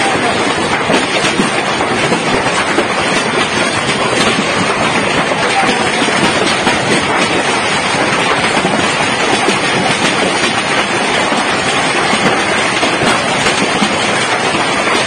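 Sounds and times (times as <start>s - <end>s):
hail and rain clattering: 0.0s - 15.0s.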